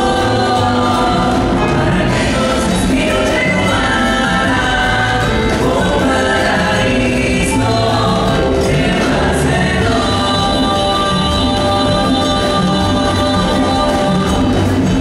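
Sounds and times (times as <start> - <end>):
live band music: 0.0 - 15.0
voices singing together: 0.0 - 15.0.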